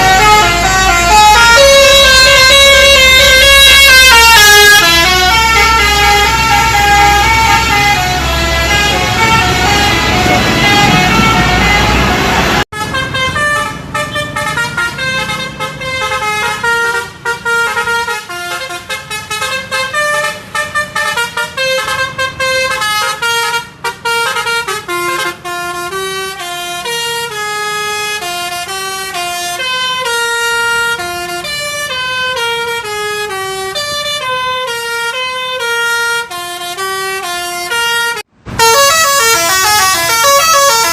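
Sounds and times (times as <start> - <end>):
bus musical horn melody: 0.0 - 40.9.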